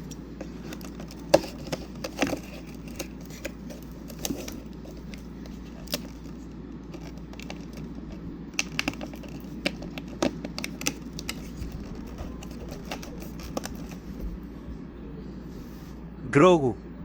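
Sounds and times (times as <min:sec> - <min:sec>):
cardboard box clicks and crinkles: 0:00.0 - 0:14.2.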